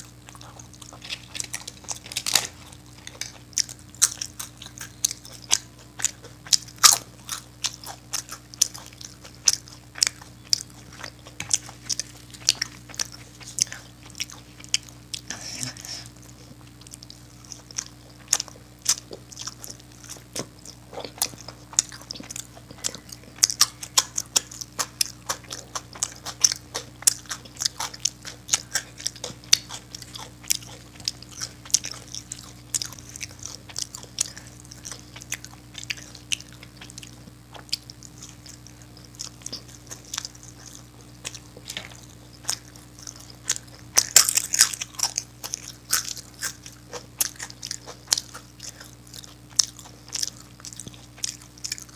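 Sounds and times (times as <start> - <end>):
chewing with mouth clicks and smacks: 0.0 - 51.9.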